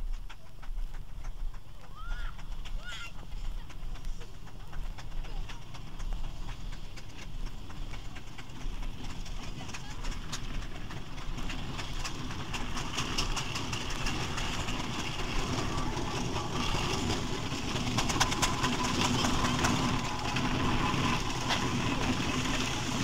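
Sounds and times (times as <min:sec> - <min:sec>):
steam engine rumble: 0:00.0 - 0:23.0
clanking and ticking: 0:00.1 - 0:23.0.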